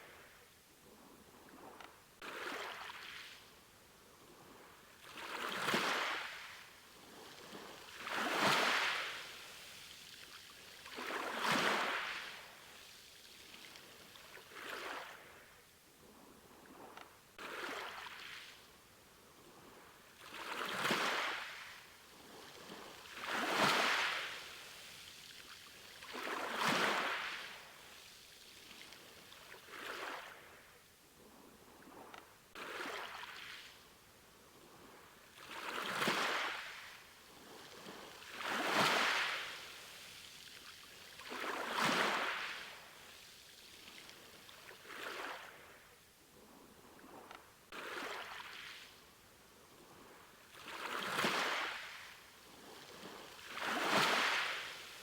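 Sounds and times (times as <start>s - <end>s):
small sea waves washing in: 1.2s - 15.6s, 16.5s - 30.8s, 31.8s - 46.0s, 46.9s - 55.0s.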